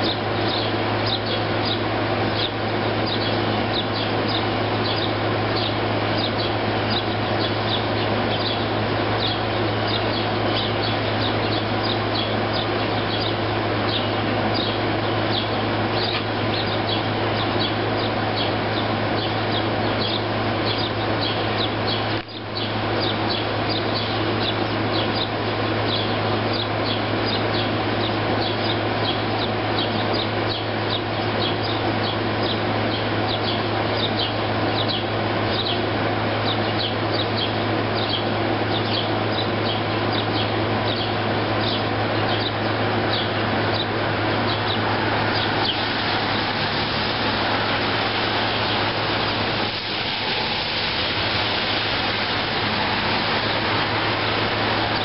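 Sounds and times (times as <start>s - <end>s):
air conditioner hum: 0.0s - 55.0s
sparrows chirping: 0.0s - 55.0s.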